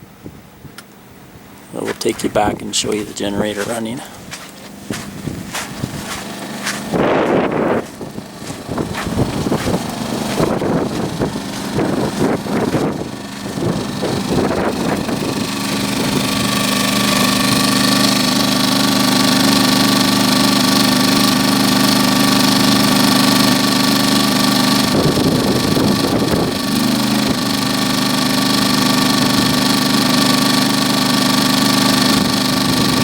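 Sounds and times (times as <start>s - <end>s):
generator engine humming: 0.0s - 33.0s.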